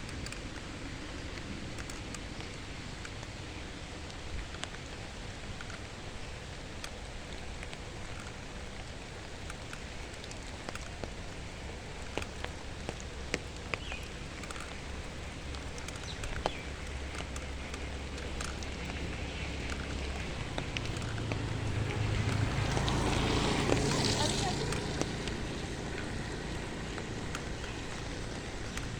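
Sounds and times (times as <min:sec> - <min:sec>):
faint clicks and ticks: 0:00.0 - 0:28.9
outdoor background hiss: 0:00.0 - 0:28.9.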